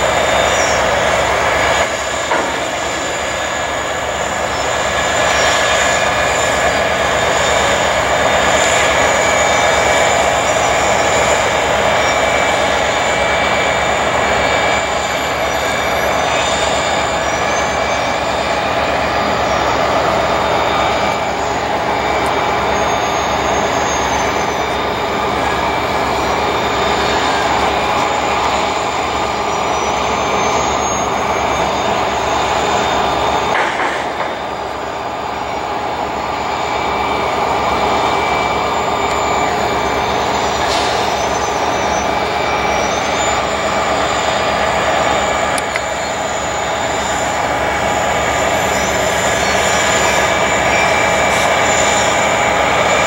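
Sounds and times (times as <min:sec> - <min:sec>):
train cars rolling past: 0:00.0 - 0:53.0.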